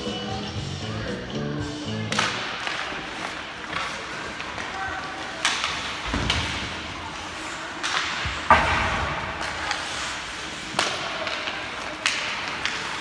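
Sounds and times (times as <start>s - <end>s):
hockey sticks and puck knocking: 2.1s - 13.0s.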